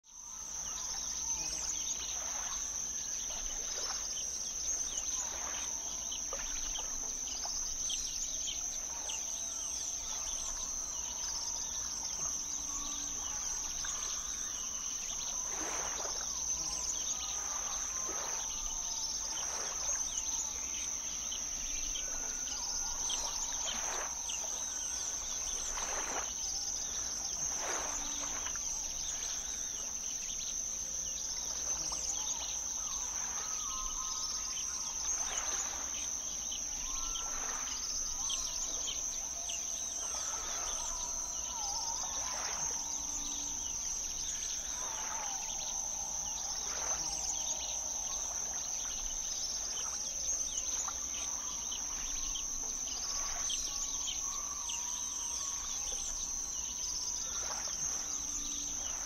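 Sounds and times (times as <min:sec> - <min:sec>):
crickets chirping: 0:00.1 - 0:59.0.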